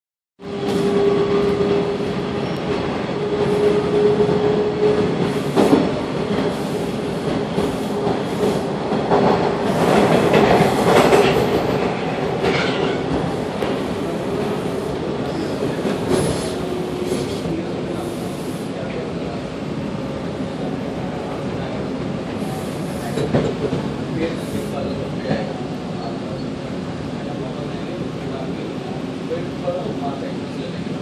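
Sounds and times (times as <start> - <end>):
train wheels rumbling on rails: 0.4 - 31.0.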